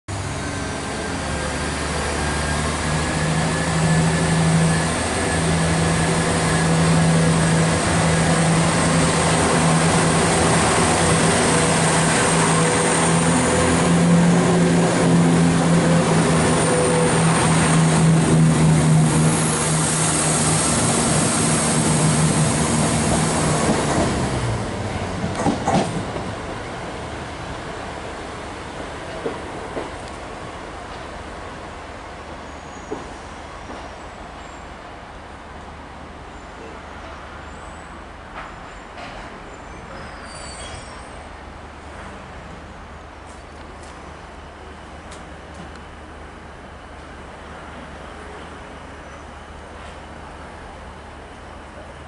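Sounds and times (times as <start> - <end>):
diesel train engines droning: 0.1 - 52.0.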